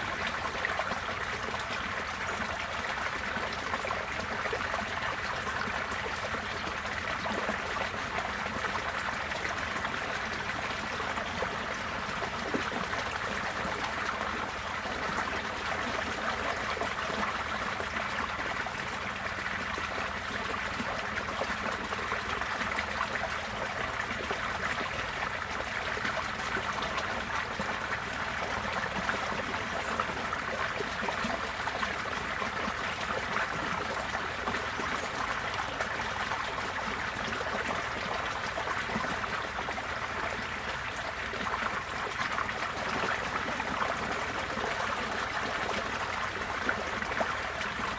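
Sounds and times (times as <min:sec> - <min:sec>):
running and trickling water: 0:00.0 - 0:47.9.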